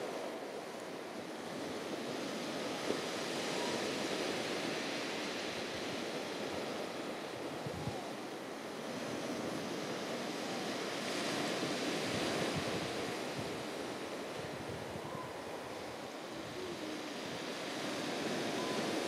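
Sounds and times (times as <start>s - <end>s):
sea surf washing on beach: 0.0s - 19.0s
wind on microphone: 0.0s - 19.0s.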